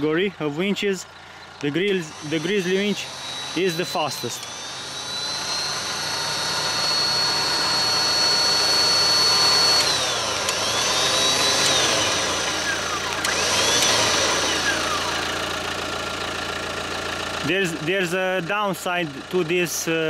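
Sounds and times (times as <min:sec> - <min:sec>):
winch motor whining: 0:01.0 - 0:18.6.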